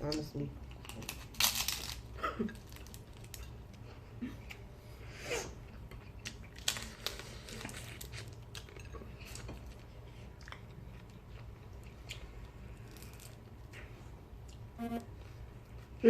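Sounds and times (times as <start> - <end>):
chewing fried fish: 0.6 - 4.7, 5.6 - 16.0.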